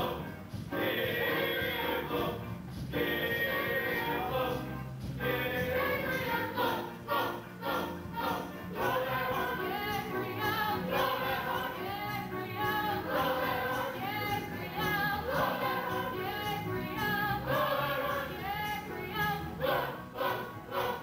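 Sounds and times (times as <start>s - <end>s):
chorus singing show tune: 0.0s - 21.0s
instrumental accompaniment: 0.0s - 21.0s.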